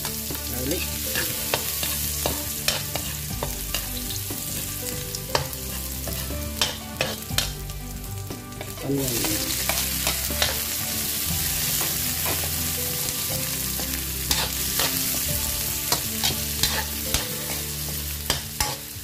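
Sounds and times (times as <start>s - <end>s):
metal spoon scraping a wok: 0.0s - 7.6s, 8.6s - 13.2s, 14.0s - 19.0s
onion and garlic sizzling in oil: 0.0s - 19.0s.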